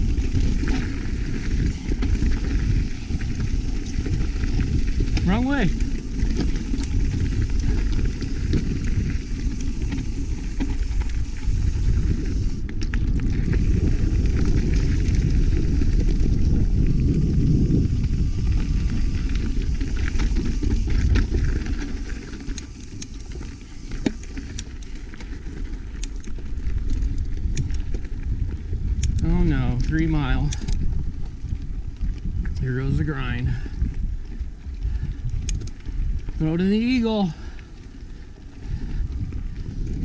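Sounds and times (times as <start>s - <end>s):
bike clicks and rattles: 0.0s - 40.0s
tyres and wind rumbling: 0.0s - 40.0s.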